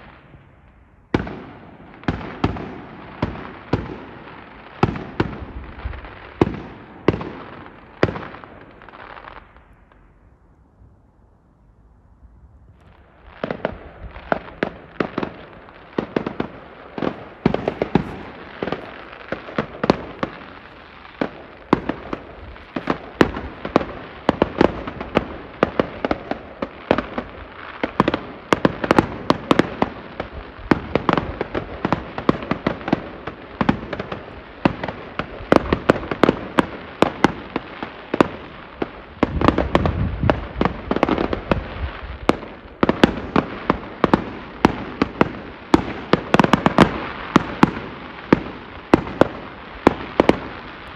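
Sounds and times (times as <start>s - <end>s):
fireworks bangs and crackles: 0.0s - 10.3s, 12.7s - 50.9s.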